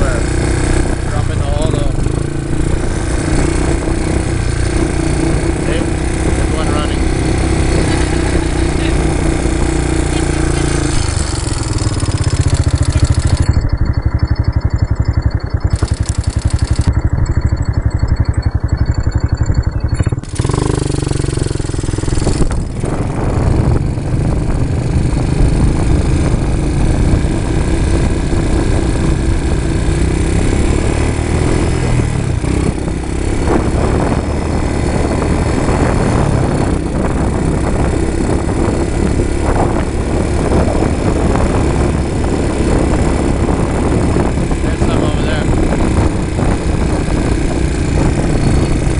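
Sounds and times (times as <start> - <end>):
quad bike engine running: 0.0 - 48.9.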